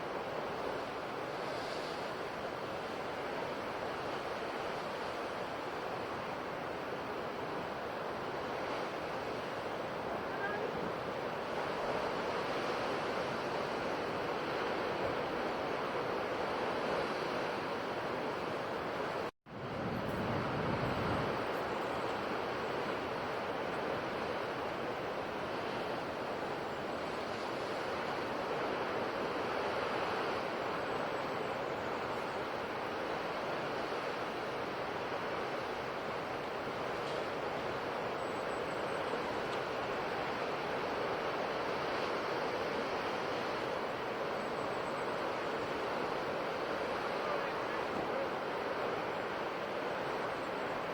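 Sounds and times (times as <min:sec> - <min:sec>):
sea waves washing on shore: 0:00.0 - 0:50.9.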